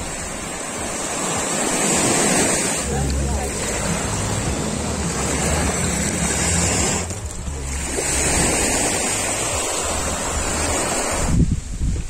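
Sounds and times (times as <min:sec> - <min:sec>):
waves washing onto sand: 0:00.0 - 0:12.0.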